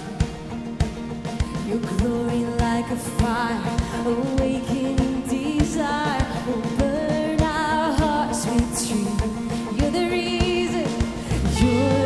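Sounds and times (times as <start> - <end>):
bass guitar: 0.0 - 12.0
electric guitar: 0.0 - 12.0
woman singing: 1.3 - 12.0.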